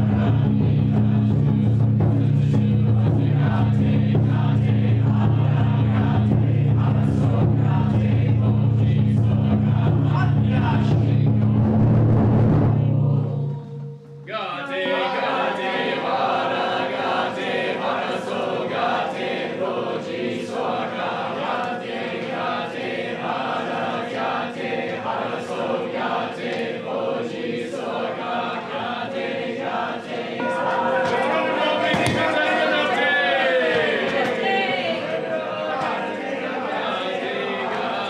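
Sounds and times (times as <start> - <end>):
congregation chanting monotone: 0.0 - 38.0.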